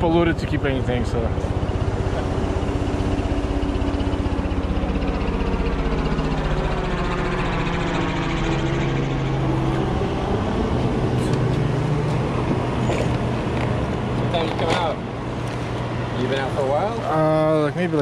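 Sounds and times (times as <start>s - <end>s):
low engine-like drone: 0.0s - 18.0s.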